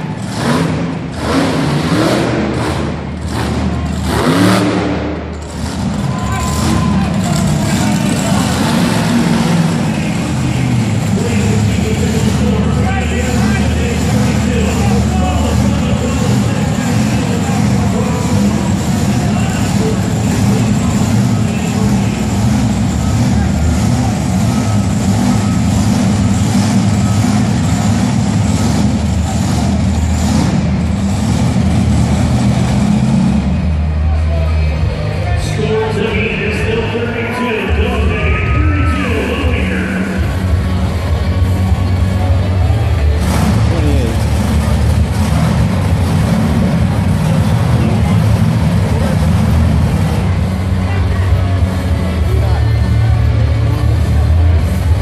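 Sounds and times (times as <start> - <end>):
monster truck engines running: 0.0 - 55.0.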